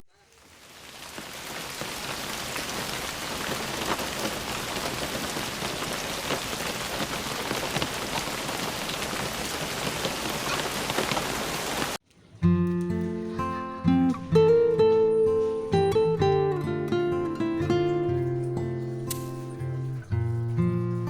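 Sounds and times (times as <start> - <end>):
steady rain falling: 0.0 - 12.1, 12.8 - 20.6.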